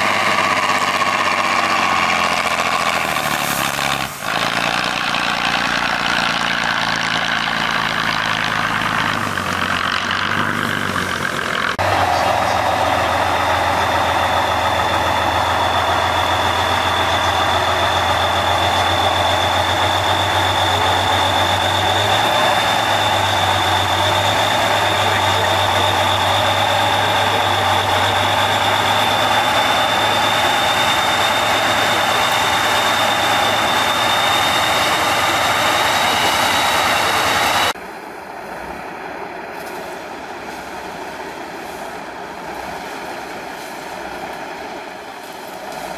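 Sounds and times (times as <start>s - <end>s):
diesel truck engine running: 0.0s - 45.9s
steady high whine: 7.7s - 45.9s.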